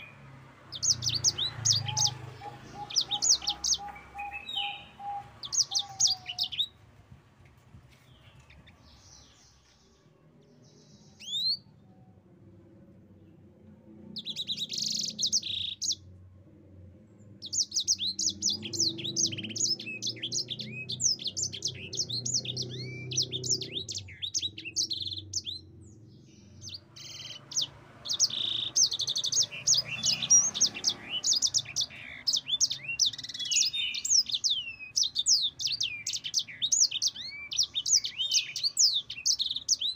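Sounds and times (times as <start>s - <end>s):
canary singing: 0.0s - 6.9s, 8.0s - 11.8s, 14.0s - 16.1s, 17.2s - 39.9s.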